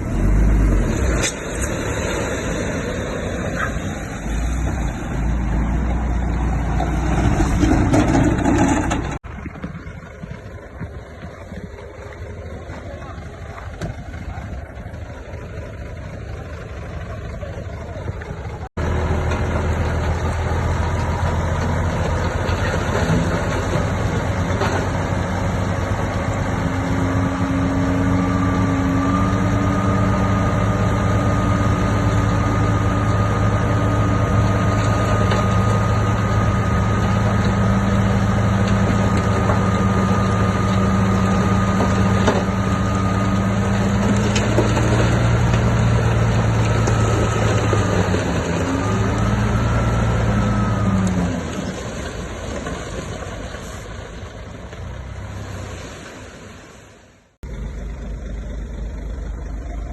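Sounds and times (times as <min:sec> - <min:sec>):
diesel machinery engine: 0:00.0 - 0:59.9.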